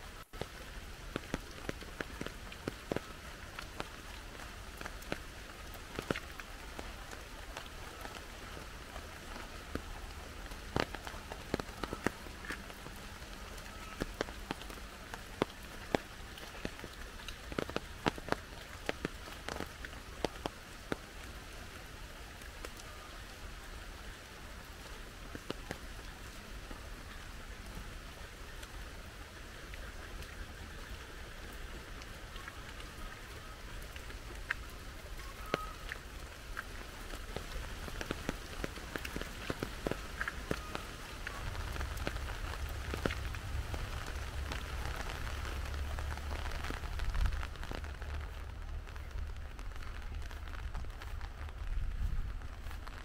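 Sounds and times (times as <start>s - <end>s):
rain falling: 0.0s - 53.0s
raindrops striking a surface: 0.0s - 53.0s.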